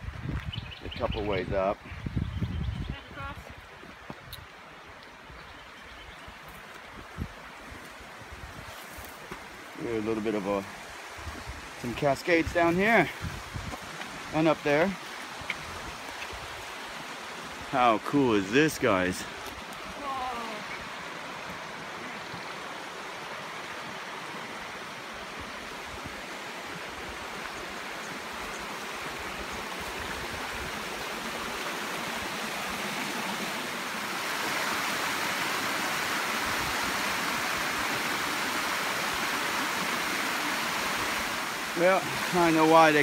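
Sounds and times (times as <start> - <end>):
creek rushing over rocks: 6.2 - 43.0.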